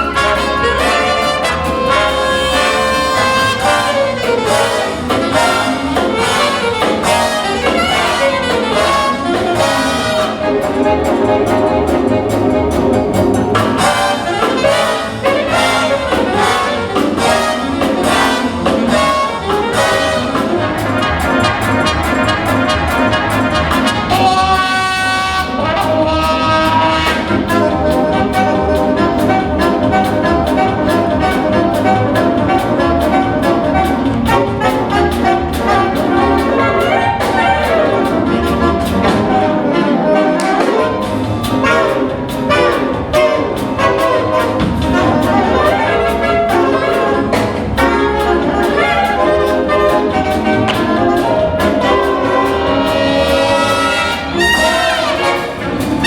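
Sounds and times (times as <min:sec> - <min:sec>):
big band jazz: 0:00.0 - 0:56.0.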